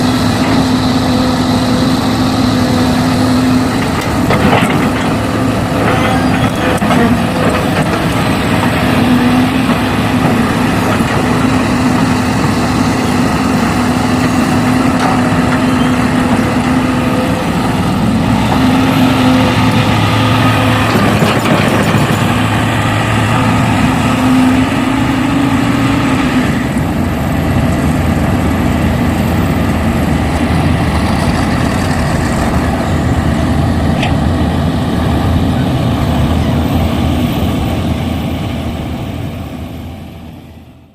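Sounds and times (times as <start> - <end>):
heavy vehicle engine running: 0.0 - 40.9.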